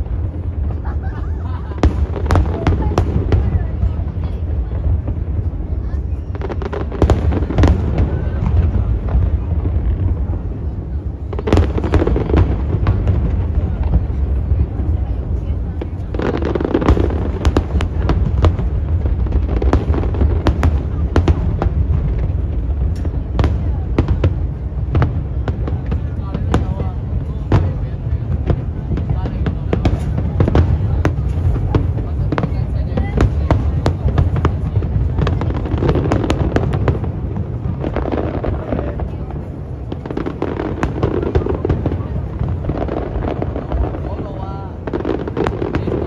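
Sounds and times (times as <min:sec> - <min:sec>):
fireworks bangs: 0:00.0 - 0:46.0
steady low rumble: 0:00.0 - 0:46.0.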